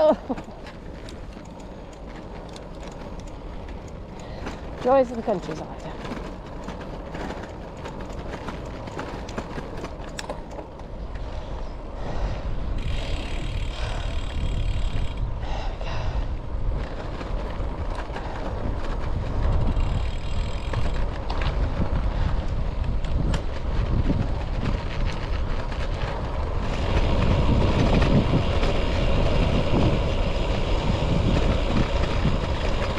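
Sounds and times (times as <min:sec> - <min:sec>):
bike tyre rumble on rough road: 0:00.0 - 0:32.9
wind buffeting microphone: 0:00.0 - 0:32.9.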